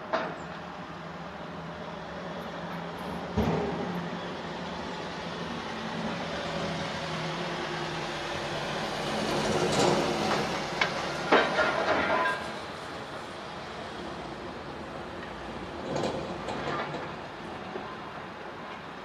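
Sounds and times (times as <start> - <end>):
excavator running: 1.2 - 19.0.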